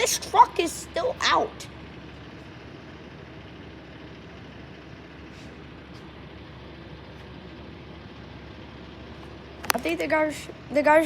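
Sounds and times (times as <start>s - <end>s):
low vehicle noise: 0.0s - 11.0s.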